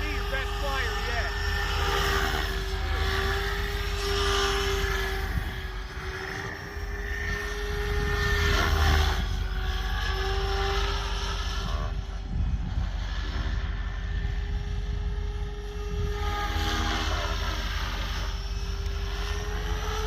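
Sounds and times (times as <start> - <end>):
low rotor thrum: 0.0 - 20.0
rc helicopter motor whine: 0.0 - 20.0.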